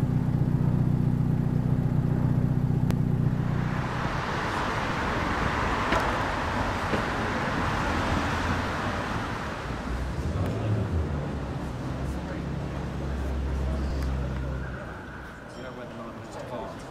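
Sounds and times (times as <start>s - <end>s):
car engine running: 0.0s - 14.7s
traffic noise: 0.0s - 16.9s.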